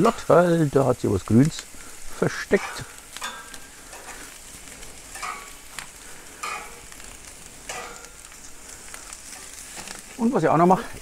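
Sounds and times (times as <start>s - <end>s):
metal tongs turning meat: 0.0s - 1.7s, 2.5s - 10.4s
meat sizzling on a grill: 0.0s - 11.0s.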